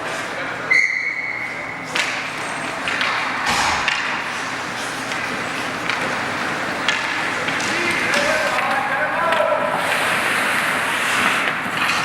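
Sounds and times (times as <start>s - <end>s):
hubbub of skating and arena: 0.0s - 12.0s
hockey sticks and puck clacking: 0.8s - 12.0s.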